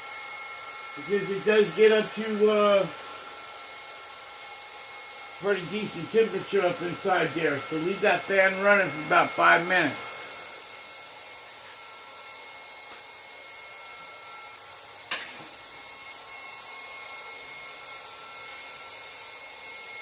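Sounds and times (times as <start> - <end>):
compressor cooling fan whining: 0.0 - 19.0.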